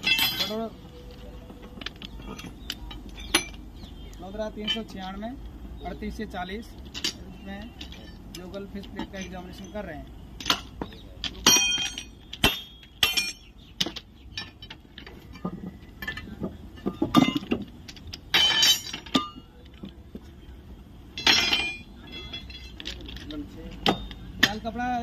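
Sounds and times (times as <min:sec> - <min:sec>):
metal rattling clatter: 0:00.0 - 0:03.9, 0:06.8 - 0:20.0, 0:21.1 - 0:25.0
steel tools clinking on bolts: 0:00.0 - 0:05.2, 0:06.8 - 0:20.0, 0:21.1 - 0:25.0.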